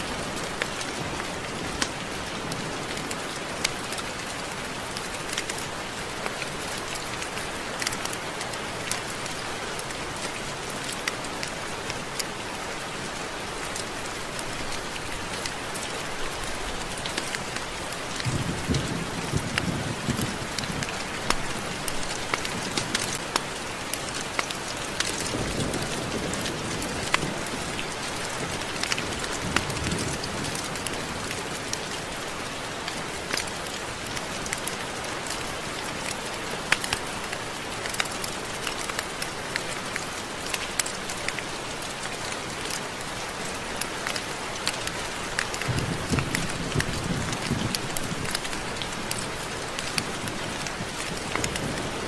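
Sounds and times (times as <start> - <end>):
raindrops ticking: 0.0 - 52.0
steady rain hiss: 0.0 - 52.0.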